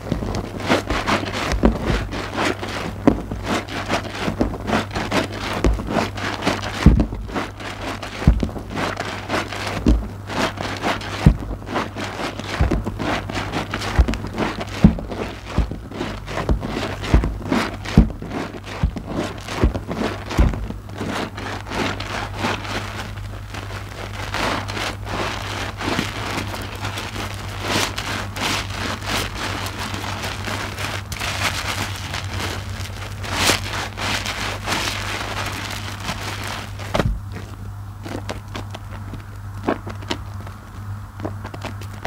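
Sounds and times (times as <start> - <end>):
soap foam squelching: 0.0 - 42.0.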